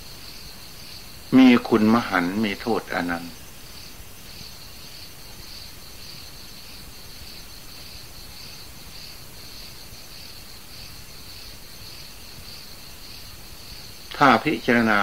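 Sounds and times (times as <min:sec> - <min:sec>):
crickets chirring: 0:00.0 - 0:15.0
old recording hiss: 0:00.0 - 0:15.0.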